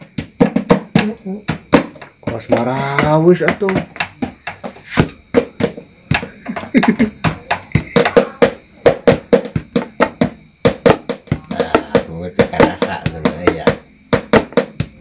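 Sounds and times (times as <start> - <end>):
hands drumming on hollow plastic: 0.0 - 15.0.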